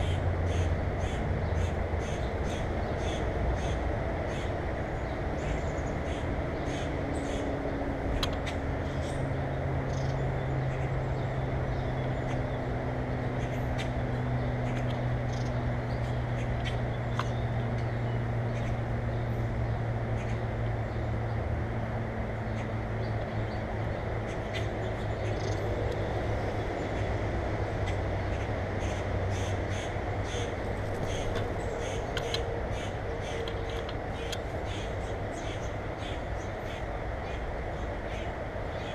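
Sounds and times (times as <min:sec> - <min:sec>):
birds harsh calls: 0:00.0 - 0:21.5, 0:22.3 - 0:38.9
low engine-like hum: 0:00.0 - 0:38.9.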